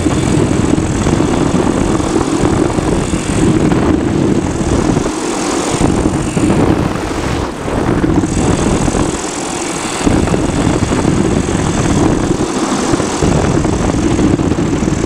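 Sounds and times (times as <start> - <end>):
engine idling: 0.0 - 15.0
propeller turning: 0.0 - 15.0
wind rushing past microphone: 0.0 - 15.0.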